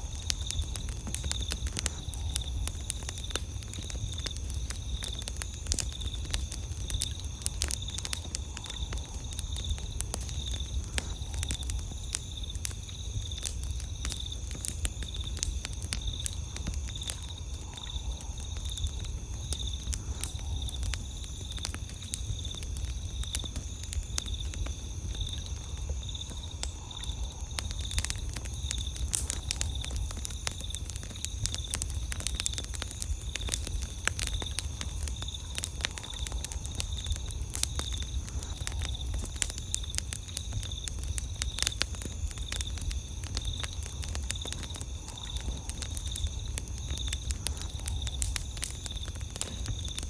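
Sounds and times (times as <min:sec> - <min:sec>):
campfire crackling and popping: 0:00.0 - 0:50.0
insects trilling: 0:00.0 - 0:50.0
pulsing insect chirp: 0:00.0 - 0:50.0.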